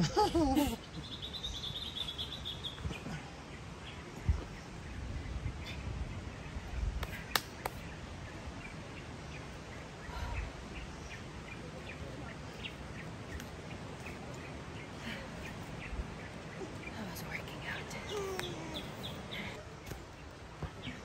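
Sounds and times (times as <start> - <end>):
birds chirping: 0.0 - 21.0
low background noise: 0.0 - 21.0.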